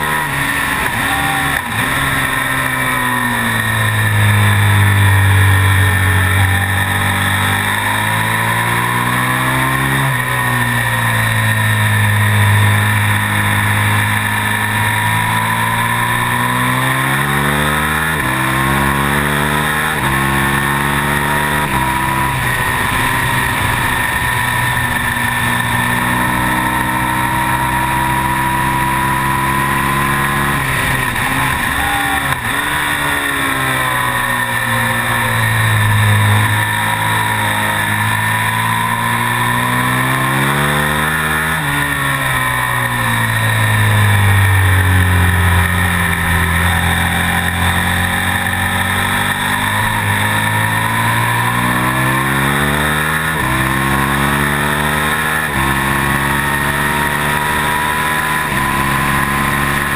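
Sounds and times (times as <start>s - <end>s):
motorcycle engine racing: 0.0s - 59.9s.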